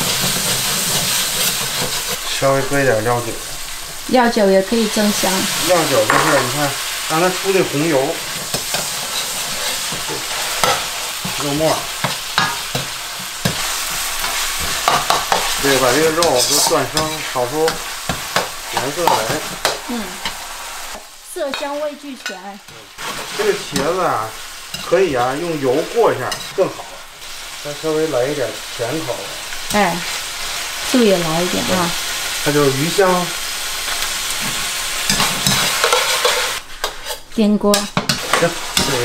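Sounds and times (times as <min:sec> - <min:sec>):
metal ladle scraping wok: 0:00.0 - 0:04.1, 0:05.5 - 0:27.4, 0:33.7 - 0:39.0
food sizzling in a wok: 0:00.0 - 0:39.0.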